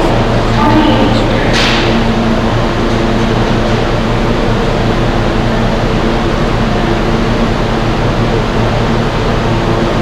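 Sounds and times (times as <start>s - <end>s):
subway station roar: 0.0s - 10.0s.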